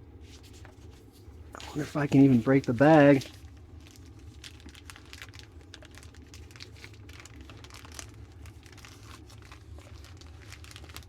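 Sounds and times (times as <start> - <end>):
steady low hum: 0.0 - 11.0
plastic bag crinkling: 0.4 - 11.0.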